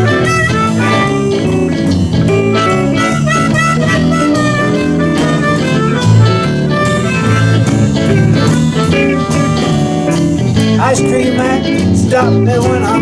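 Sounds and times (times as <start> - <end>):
harmonica: 0.0 - 10.6
blues band playing: 0.0 - 13.0.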